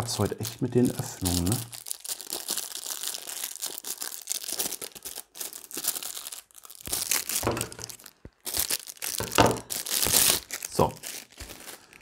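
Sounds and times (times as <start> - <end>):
plastic packaging crinkling: 0.0 - 12.0
plastic packet tearing: 0.0 - 12.0.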